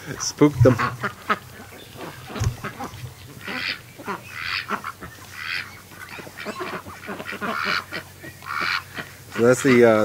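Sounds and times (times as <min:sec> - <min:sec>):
ducks and geese honking and quacking: 0:00.0 - 0:10.0.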